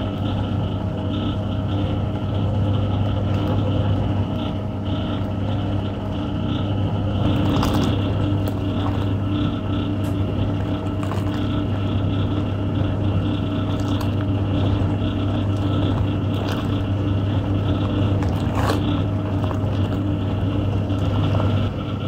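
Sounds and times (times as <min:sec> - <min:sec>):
washing machine motor humming: 0:00.0 - 0:22.0
wash water churning: 0:01.1 - 0:22.0.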